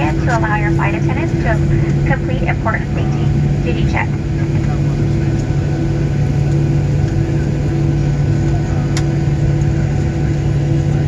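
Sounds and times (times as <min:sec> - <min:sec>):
airplane cabin drone: 0:00.0 - 0:11.0
low hums: 0:00.0 - 0:11.0.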